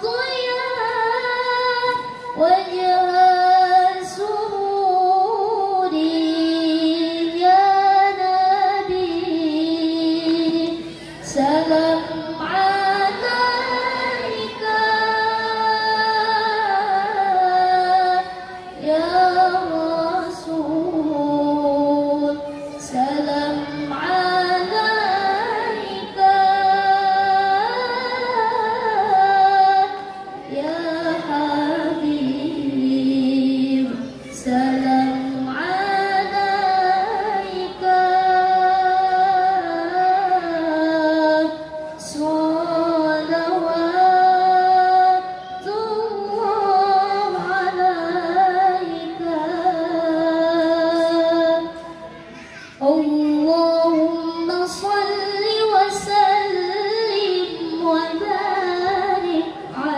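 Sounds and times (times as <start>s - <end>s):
woman reciting melodically: 0.0s - 59.9s.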